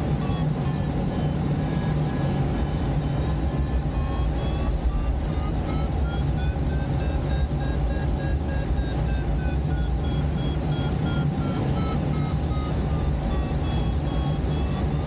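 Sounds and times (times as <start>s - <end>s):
low rumble of airflow: 0.0s - 15.0s
variometer beeping: 0.0s - 15.0s.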